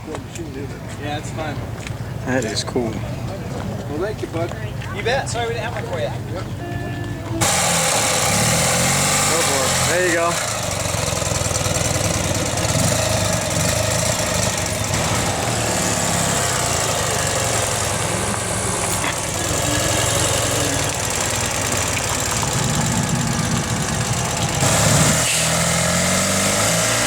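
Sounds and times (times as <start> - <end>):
engine idling: 3.9 - 27.0.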